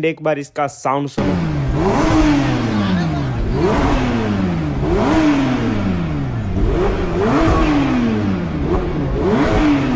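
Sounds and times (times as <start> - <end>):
car engine revving: 1.2 - 9.9.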